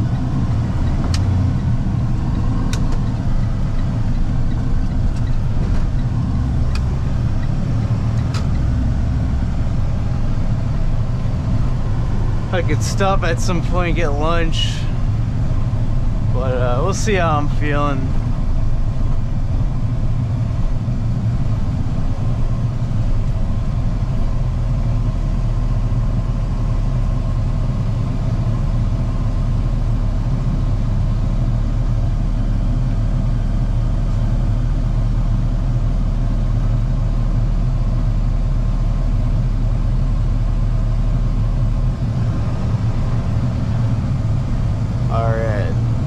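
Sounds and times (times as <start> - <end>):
road noise: 0.0 - 46.0
truck engine droning: 0.0 - 46.0.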